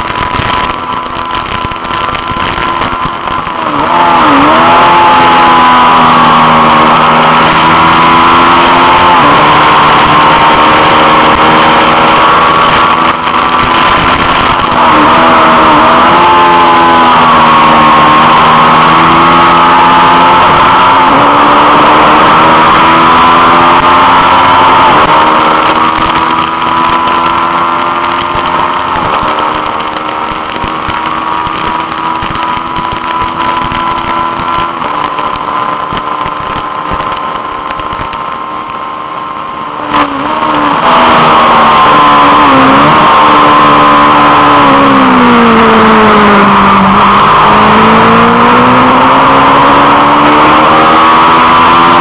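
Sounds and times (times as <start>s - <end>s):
motorcycle engine at speed: 0.0s - 52.0s.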